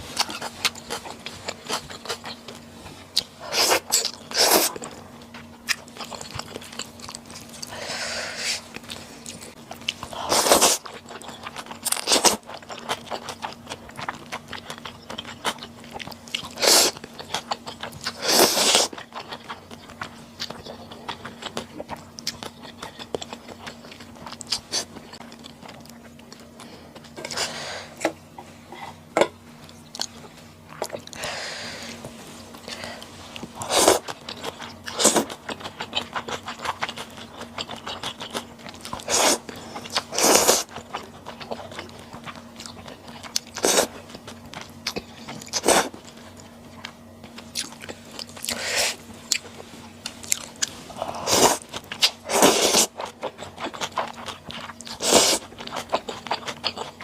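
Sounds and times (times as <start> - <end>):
faint steady hum: 0.0 - 57.0
person chewing and biting: 0.1 - 28.2, 29.7 - 57.0.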